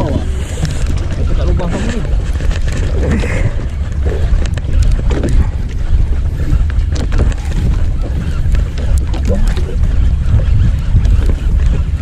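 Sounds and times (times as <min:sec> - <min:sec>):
boat low rumble: 0:00.0 - 0:12.0
wind buffeting microphone: 0:00.0 - 0:12.0.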